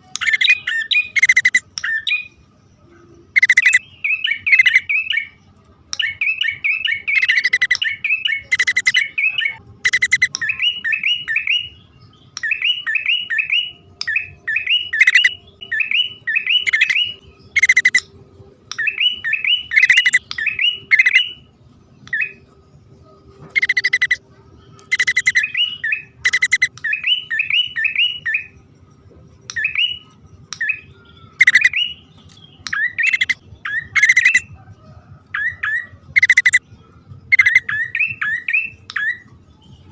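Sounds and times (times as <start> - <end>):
birds chirping in repeated runs: 0.0 - 39.9.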